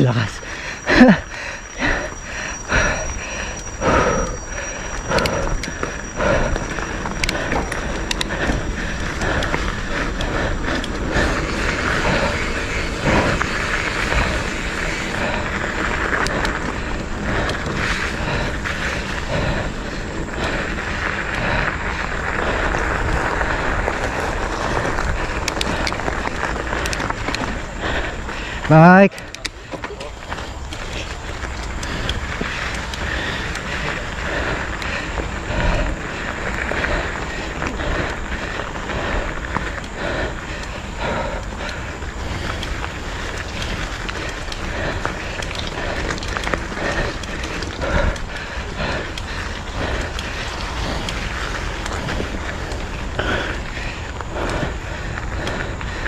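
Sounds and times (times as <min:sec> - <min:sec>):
wind and tyre noise: 0:00.0 - 0:56.0
bike clicks and rattles: 0:00.2 - 0:56.0.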